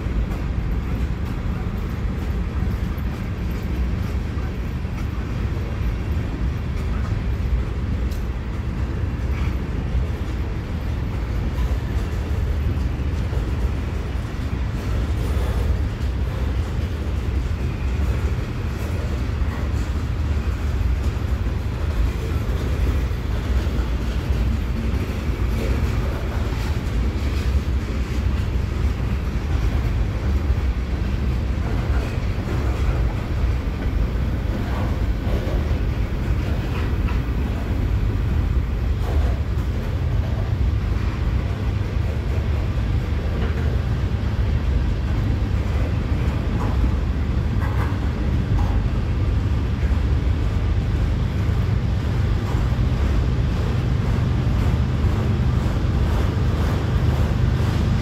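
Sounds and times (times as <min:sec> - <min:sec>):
rumble of train wheels on track: 0:00.0 - 0:58.0.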